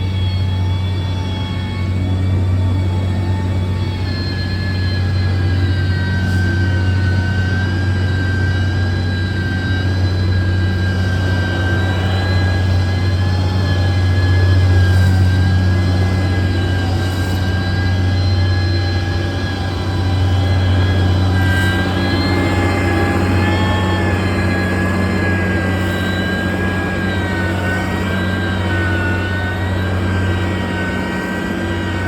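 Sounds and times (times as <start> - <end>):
diesel engine droning under load: 0.0 - 32.0
high whine: 0.0 - 32.0.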